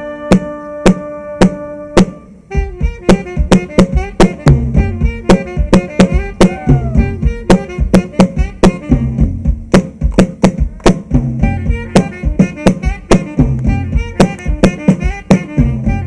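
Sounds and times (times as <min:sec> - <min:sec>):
bass line: 0:00.0 - 0:16.0
drum kit beat: 0:00.0 - 0:16.0.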